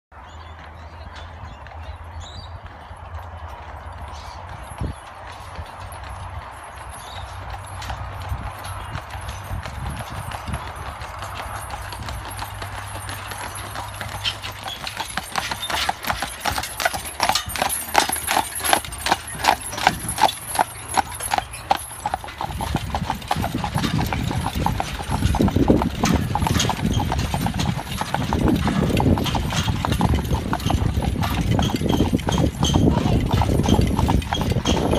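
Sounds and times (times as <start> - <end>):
horse hooves clip-clopping on road: 0.2 - 34.9.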